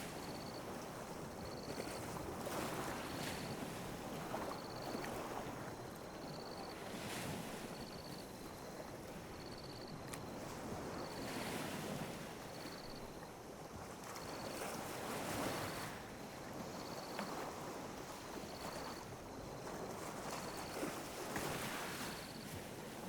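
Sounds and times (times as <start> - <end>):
sea waves lapping on beach: 0.0 - 23.0.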